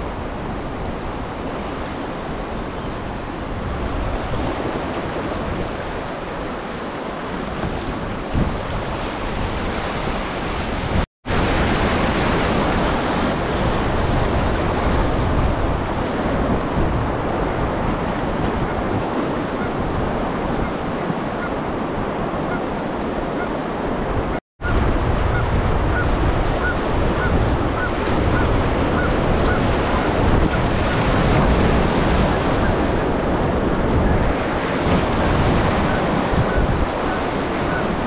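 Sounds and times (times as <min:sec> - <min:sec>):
river current rushing and splashing: 0:00.0 - 0:38.0.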